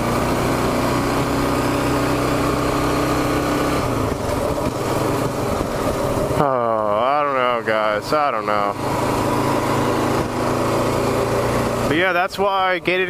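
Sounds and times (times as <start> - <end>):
motorcycle engine cruising: 0.0 - 13.0
wind and road rush: 0.0 - 13.0.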